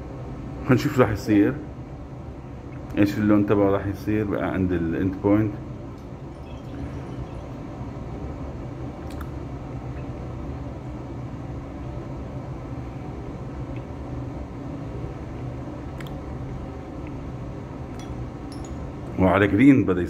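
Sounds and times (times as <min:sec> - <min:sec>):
ventilation hum: 0:00.0 - 0:20.0.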